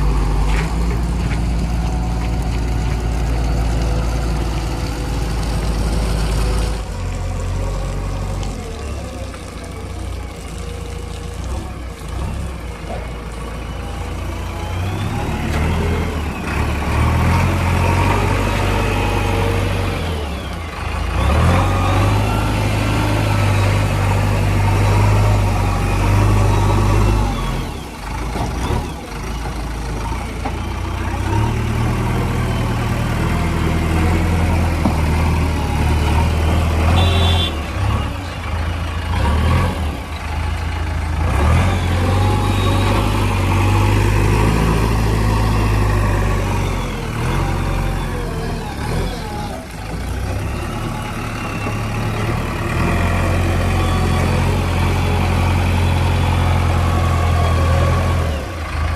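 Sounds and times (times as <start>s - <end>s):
diesel engines revving under load: 0.0s - 58.9s.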